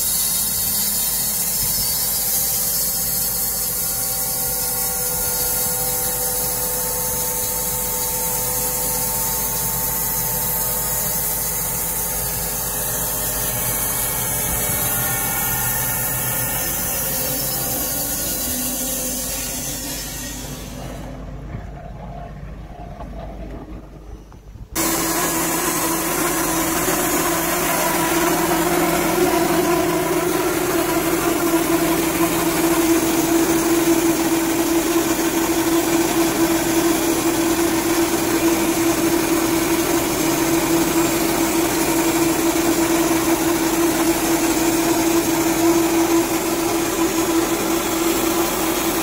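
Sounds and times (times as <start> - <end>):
band sawmill cutting log: 0.0 - 21.3, 24.8 - 49.0.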